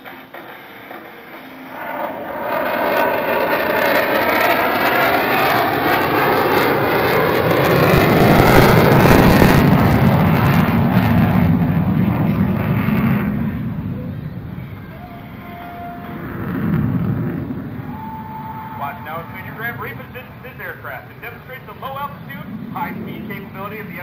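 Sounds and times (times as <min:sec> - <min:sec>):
jet aircraft passing overhead: 0:00.0 - 0:24.0.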